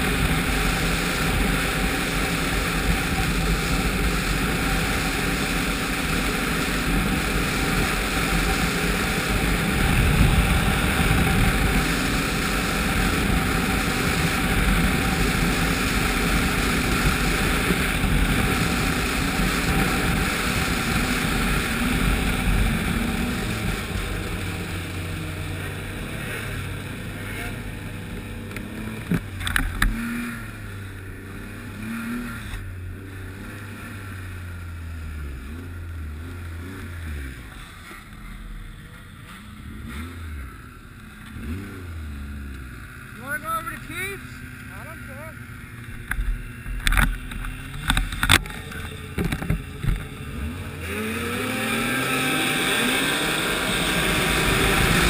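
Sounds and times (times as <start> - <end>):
snowmobile engine and track noise: 0.0 - 55.0.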